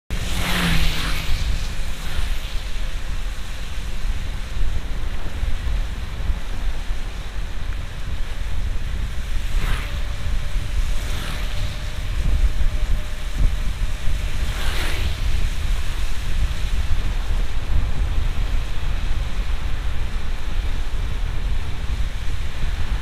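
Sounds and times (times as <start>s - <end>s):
tyres on wet road: 0.1s - 23.0s.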